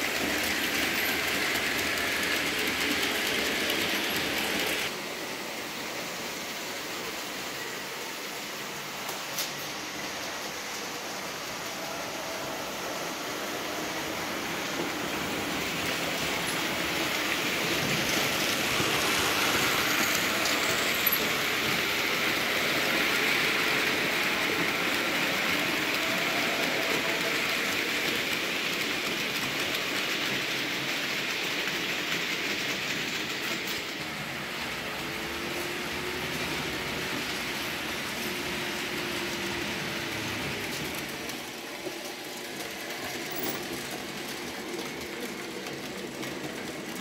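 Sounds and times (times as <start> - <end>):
model trains whirring on track: 0.0 - 47.0.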